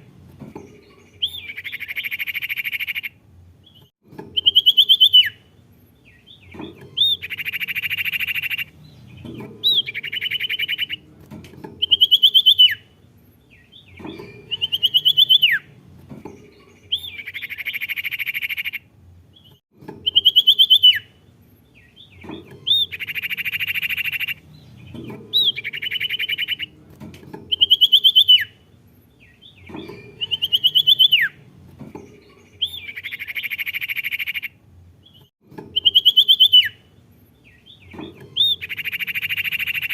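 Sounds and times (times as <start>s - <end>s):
recorded songbird song: 0.0s - 39.9s.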